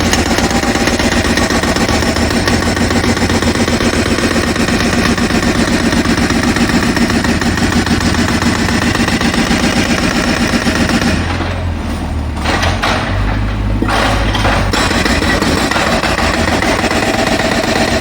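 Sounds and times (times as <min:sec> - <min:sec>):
jackhammer rattling: 0:00.0 - 0:11.4, 0:13.8 - 0:18.0.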